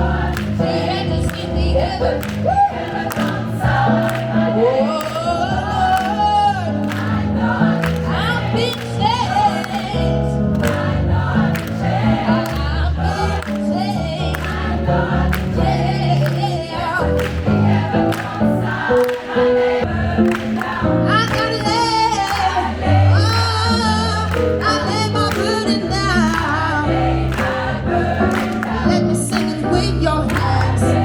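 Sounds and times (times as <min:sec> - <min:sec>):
women's choir singing: 0:00.0 - 0:31.0.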